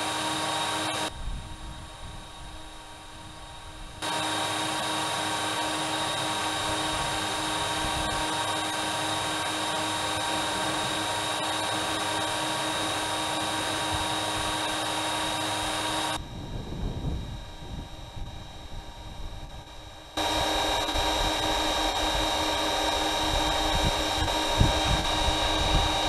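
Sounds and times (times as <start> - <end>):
electric motor whine: 0.0 - 26.0
wind: 0.0 - 26.0.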